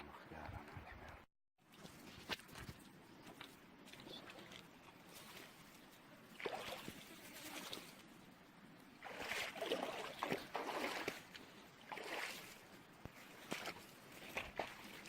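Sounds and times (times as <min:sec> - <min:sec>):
water splashing and sloshing: 0:01.6 - 0:15.0.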